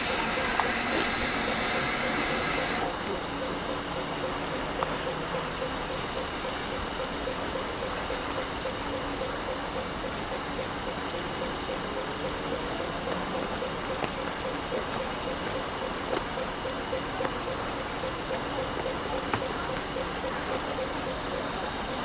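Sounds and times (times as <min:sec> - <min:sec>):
locomotive hissing steam: 0:00.0 - 0:22.0.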